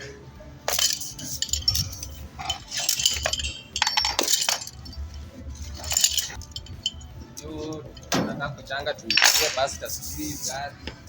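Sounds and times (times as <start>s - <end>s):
metal carabiners clinking: 0.0s - 10.7s.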